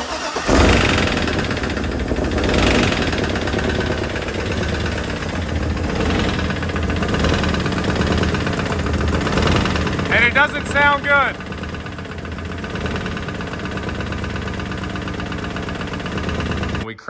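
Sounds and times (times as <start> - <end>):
engine clattering knock: 0.0 - 16.8
engine running: 0.0 - 17.0.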